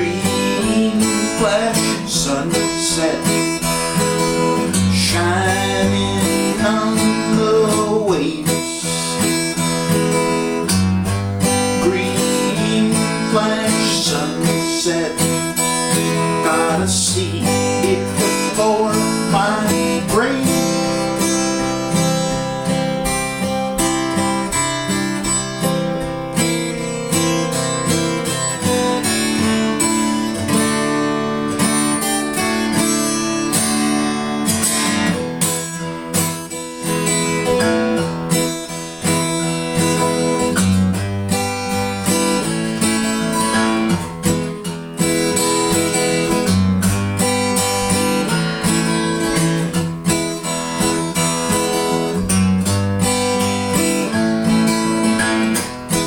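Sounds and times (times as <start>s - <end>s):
strummed acoustic guitar: 0.0s - 56.0s.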